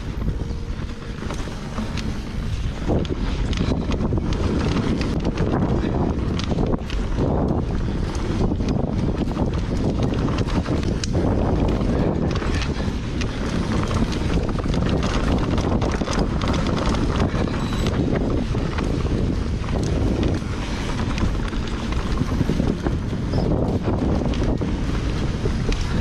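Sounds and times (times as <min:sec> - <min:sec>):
bike knocks and rattles: 0:00.0 - 0:26.0
mountain bike rumble: 0:00.0 - 0:26.0
wind buffeting microphone: 0:00.0 - 0:26.0.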